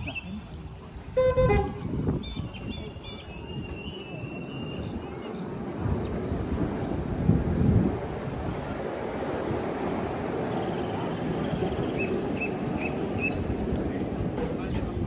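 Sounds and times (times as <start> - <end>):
train wheels rumbling on track: 1.1 - 15.0.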